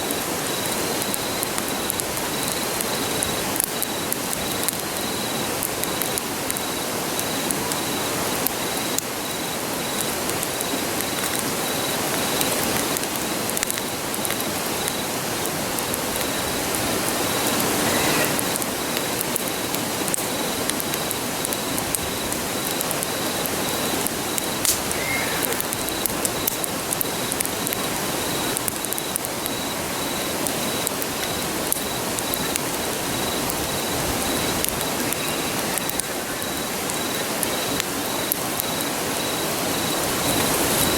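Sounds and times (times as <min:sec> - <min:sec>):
campfire crackling and popping: 0:00.0 - 0:40.9
high insect chirp: 0:00.0 - 0:40.9.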